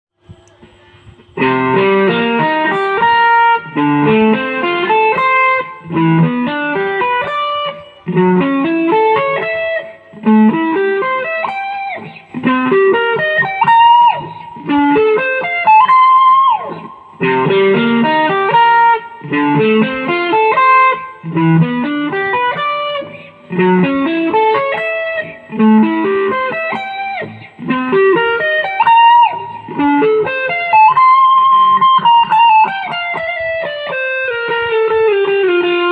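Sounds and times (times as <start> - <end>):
amplified plucked string melody: 0.4 - 35.9.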